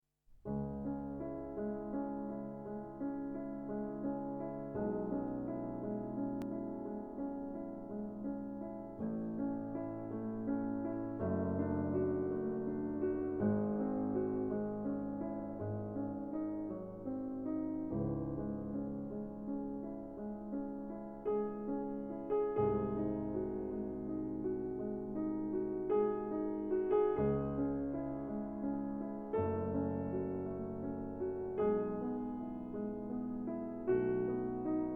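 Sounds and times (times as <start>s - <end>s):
gentle piano piece: 0.3s - 34.9s.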